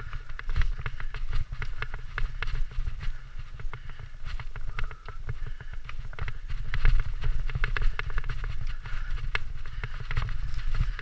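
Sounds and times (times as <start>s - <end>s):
mountain bike clattering: 0.0s - 11.0s.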